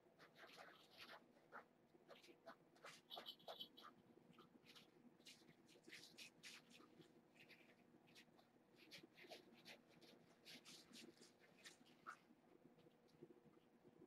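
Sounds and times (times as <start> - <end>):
kittens scratching and rustling: 0.1 - 13.3.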